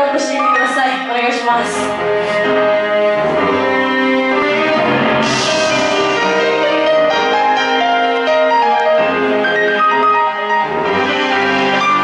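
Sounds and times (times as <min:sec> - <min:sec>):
instrumental keyboard music: 0:00.0 - 0:12.0.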